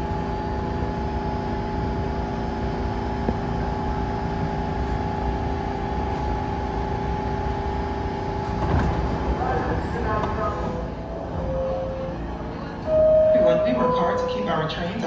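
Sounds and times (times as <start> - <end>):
subway train equipment humming: 0.0 - 15.0.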